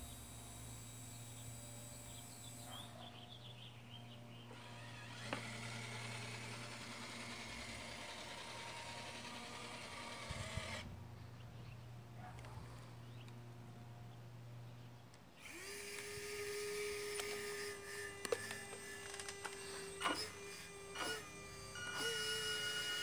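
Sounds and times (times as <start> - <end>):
electric motor running: 0.0 - 11.0, 15.4 - 23.0.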